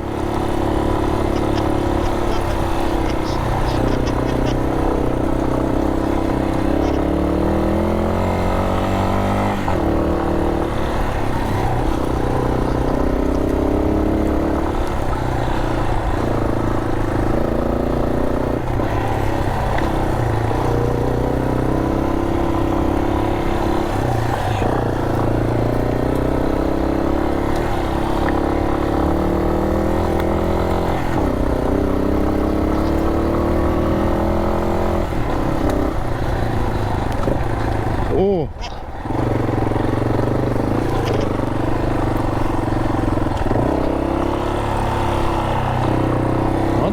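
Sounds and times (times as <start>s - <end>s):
motorcycle engine revving uphill: 0.0s - 46.9s.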